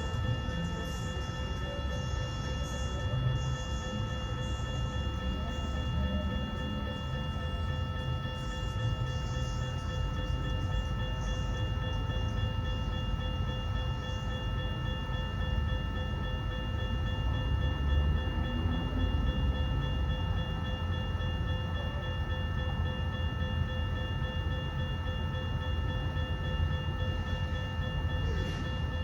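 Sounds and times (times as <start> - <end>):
crossing bell ringing tones: 0.0 - 29.0
freight train rumbling: 0.0 - 29.0.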